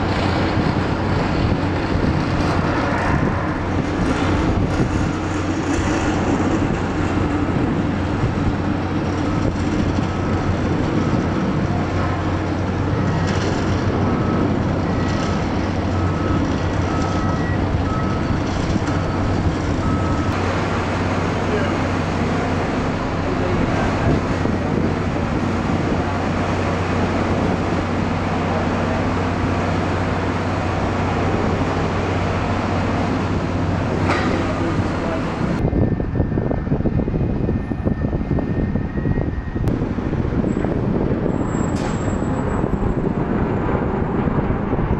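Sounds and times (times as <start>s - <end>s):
engine drone: 0.0s - 44.9s
gusty rumble: 0.0s - 44.9s.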